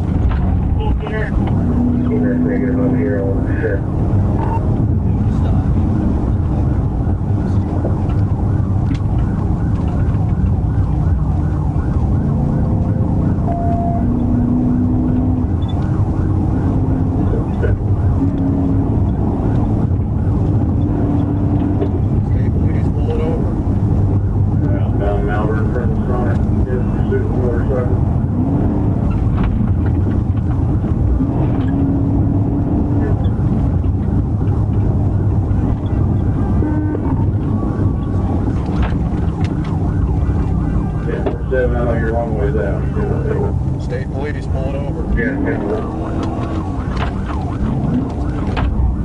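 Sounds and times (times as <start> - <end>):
car engine rumbling: 0.0 - 49.0
road noise: 0.0 - 49.0
police siren yelping: 0.6 - 49.0.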